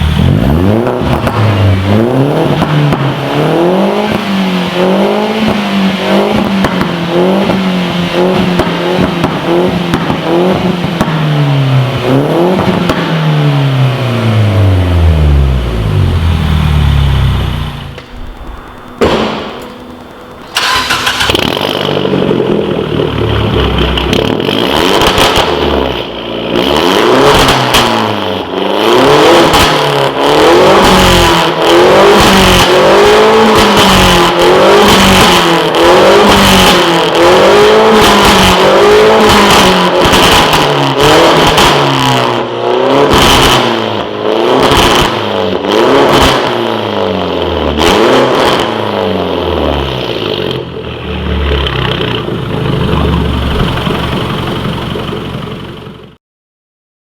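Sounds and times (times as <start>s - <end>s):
exhaust cracks: 0.0s - 56.1s
loud car engine revving: 0.0s - 56.1s.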